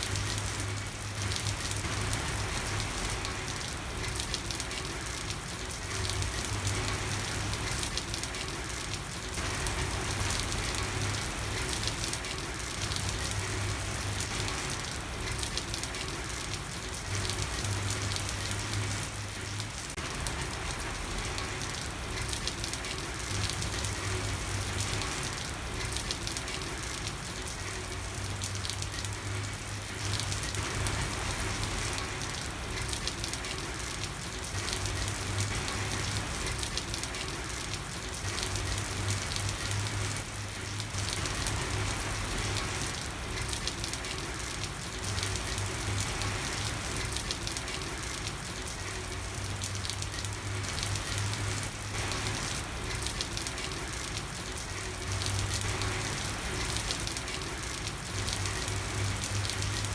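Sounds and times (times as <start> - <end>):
rain falling on a street: 0.0 - 59.9.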